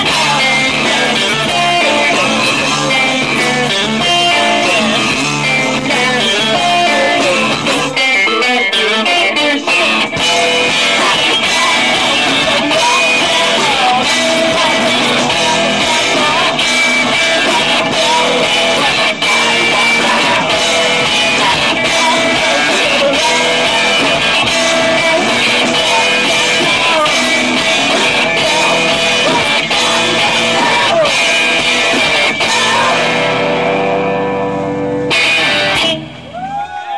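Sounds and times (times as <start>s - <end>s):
man singing: 0.0s - 33.4s
drums with a steady beat: 0.0s - 36.8s
bass guitar: 0.0s - 36.9s
electric guitar: 0.0s - 36.9s.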